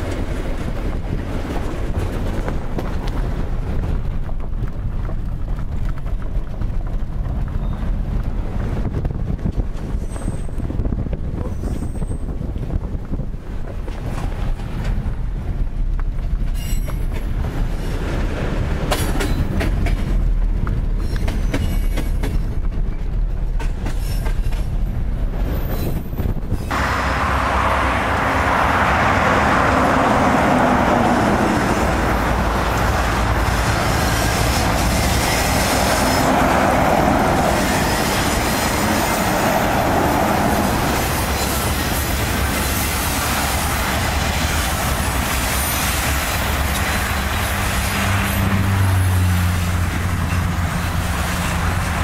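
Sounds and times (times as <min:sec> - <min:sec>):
freight train passing: 0:00.0 - 0:52.0
wind noise: 0:00.0 - 0:52.0.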